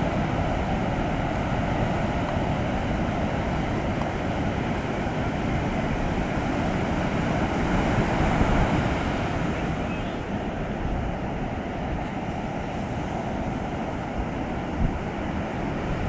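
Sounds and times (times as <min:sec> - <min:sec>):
ocean waves washing up beach: 0:00.0 - 0:16.0.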